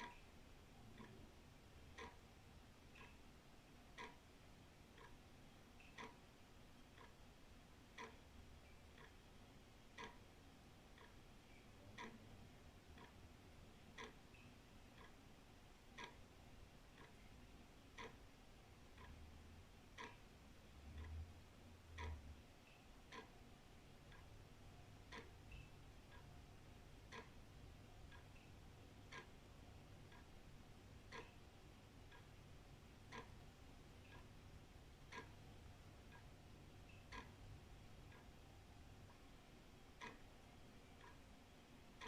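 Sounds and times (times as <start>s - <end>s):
wall clock ticking: 0.0s - 42.0s.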